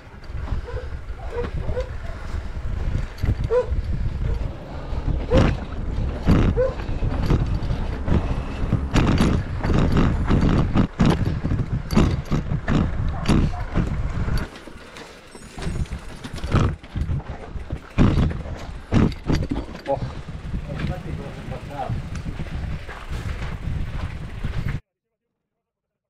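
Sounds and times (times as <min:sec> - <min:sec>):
wind rumble on microphone: 0:00.0 - 0:14.5, 0:15.6 - 0:24.8
bike rattling and knocking: 0:00.0 - 0:24.8.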